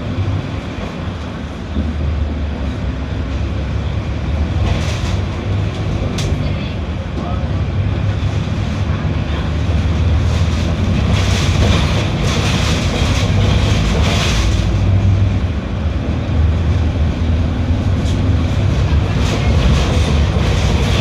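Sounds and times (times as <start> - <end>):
bus diesel engine droning: 0.0 - 21.0.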